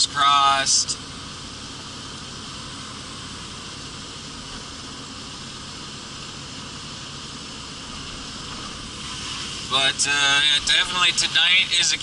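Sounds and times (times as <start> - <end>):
low car rumble: 0.0 - 12.0
tyres hissing on road: 0.0 - 12.0.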